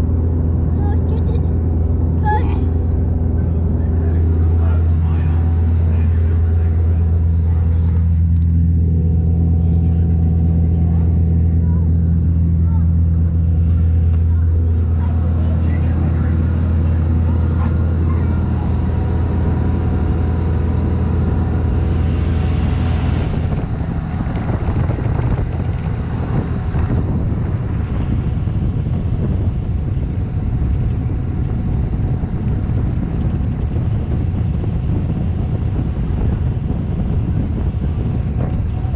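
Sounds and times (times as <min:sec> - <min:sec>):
boat engine humming: 0:00.0 - 0:38.9
hull rushing through water: 0:00.0 - 0:38.9.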